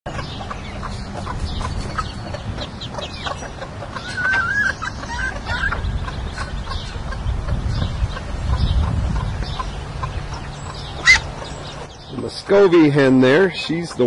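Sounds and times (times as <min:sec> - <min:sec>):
ducklings peeping: 0:00.1 - 0:14.0
hen clucking: 0:00.1 - 0:14.0.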